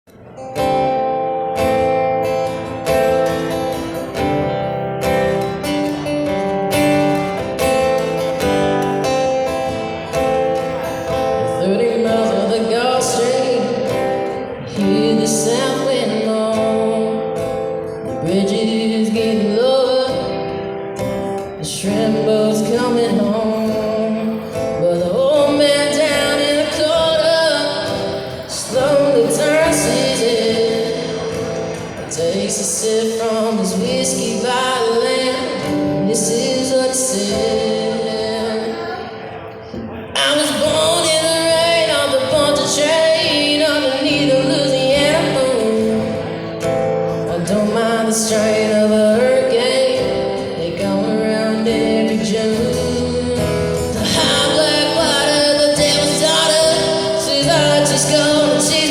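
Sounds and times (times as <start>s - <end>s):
person singing: 0.1s - 58.9s
strummed acoustic guitar: 0.1s - 58.9s.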